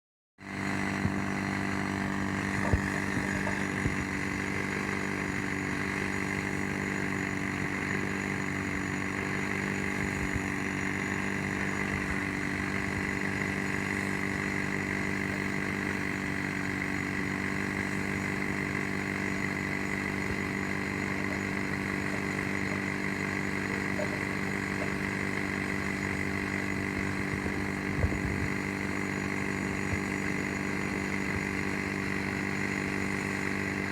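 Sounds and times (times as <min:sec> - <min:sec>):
machine engine running: 0:00.4 - 0:33.9.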